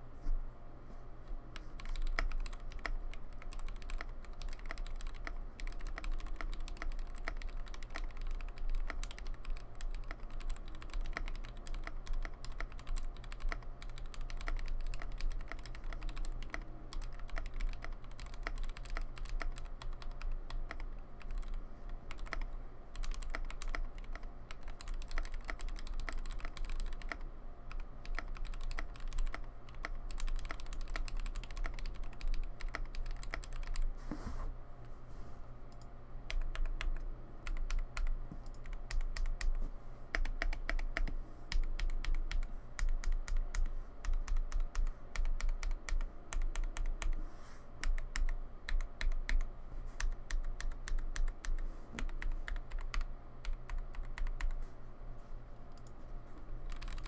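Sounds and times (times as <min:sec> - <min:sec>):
low hum and hiss: 0:00.0 - 0:57.0
mechanical keyboard typing: 0:01.6 - 0:33.9, 0:35.8 - 0:47.2, 0:47.8 - 0:54.6, 0:56.7 - 0:57.0.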